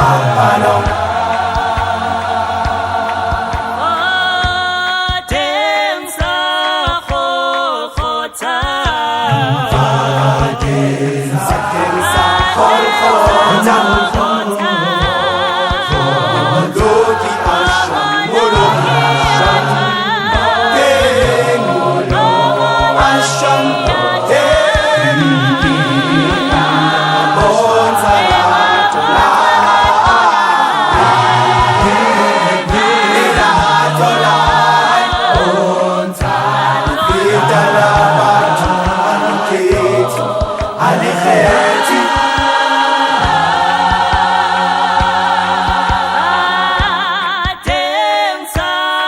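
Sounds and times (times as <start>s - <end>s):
low steady beat: 0.0s - 5.6s, 8.0s - 47.9s
gospel choir singing: 0.0s - 49.0s.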